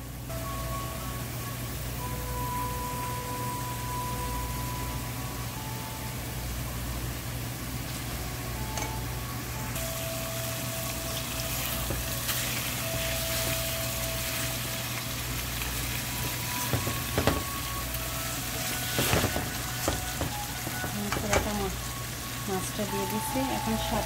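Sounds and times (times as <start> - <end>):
low steady hum: 0.0 - 24.0
fish sizzling in oil: 0.5 - 24.0.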